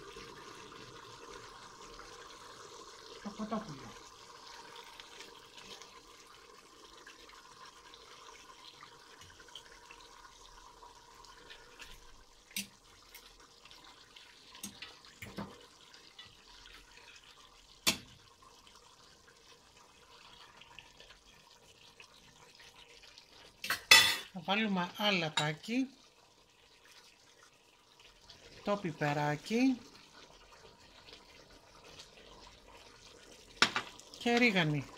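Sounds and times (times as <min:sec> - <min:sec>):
pots bubbling on stove: 0:00.0 - 0:34.9.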